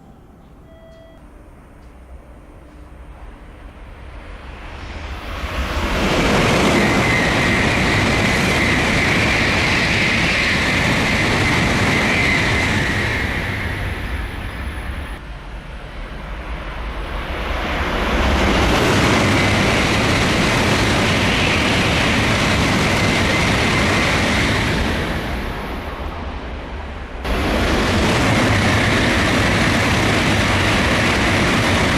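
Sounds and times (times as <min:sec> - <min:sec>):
high-speed train passing: 0:00.0 - 0:31.9.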